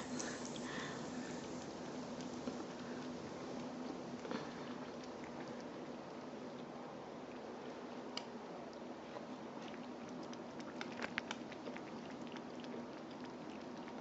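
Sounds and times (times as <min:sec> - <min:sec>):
faint steady hum: 0:00.0 - 0:14.0
kitten lapping water: 0:00.0 - 0:14.0.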